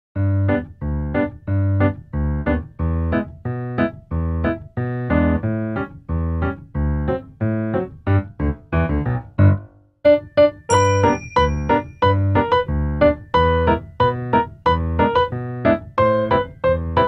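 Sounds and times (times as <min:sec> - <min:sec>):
keyboard playing chords: 0:00.2 - 0:17.0.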